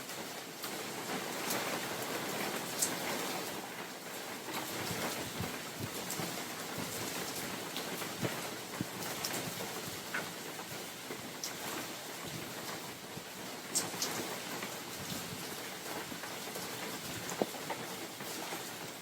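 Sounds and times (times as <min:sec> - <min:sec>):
rain hissing in forest: 0:00.0 - 0:19.0
raindrops pattering on leaves: 0:00.0 - 0:19.0.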